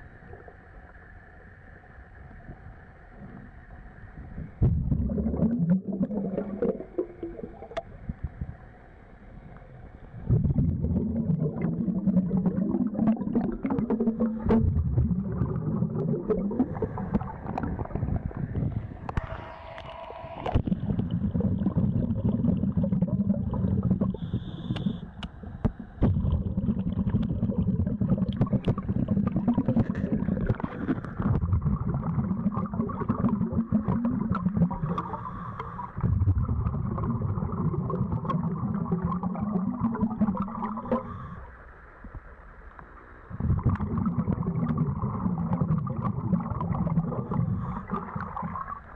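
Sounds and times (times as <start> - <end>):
underwater regulator bubbling: 4.4 - 8.5, 10.2 - 41.4, 43.3 - 48.9.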